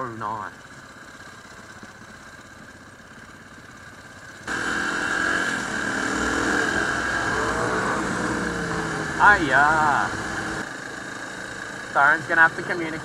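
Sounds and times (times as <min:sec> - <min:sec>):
motorcycle engine accelerating: 0:00.6 - 0:13.0.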